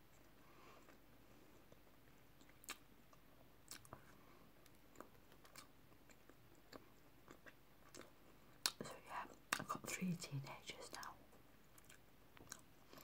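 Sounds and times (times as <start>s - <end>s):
person chewing bread: 0.0s - 9.7s, 10.9s - 13.0s.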